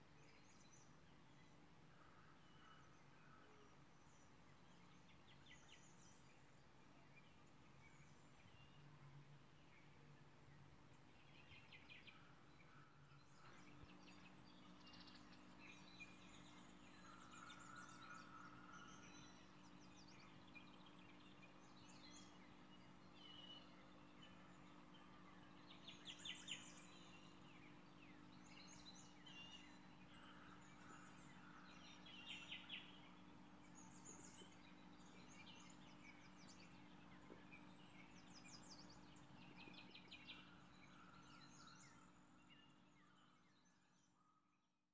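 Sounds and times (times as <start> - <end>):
low steady hum: 0.0 - 44.4.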